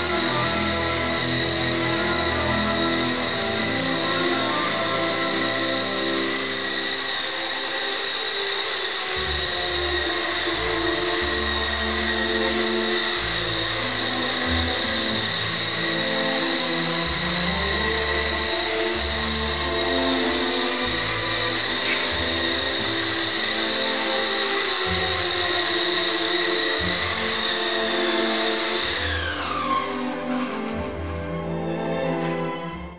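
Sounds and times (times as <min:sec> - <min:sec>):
toy helicopter motor whine: 0:00.0 - 0:32.0.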